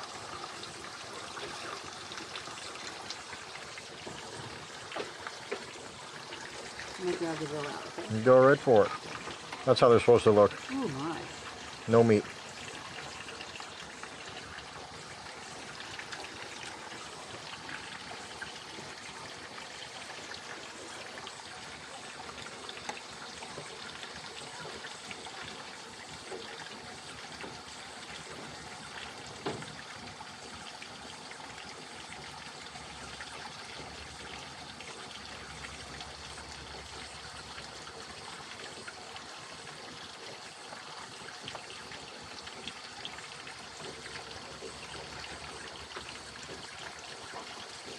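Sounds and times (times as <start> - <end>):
water trickling: 0.0 - 47.9.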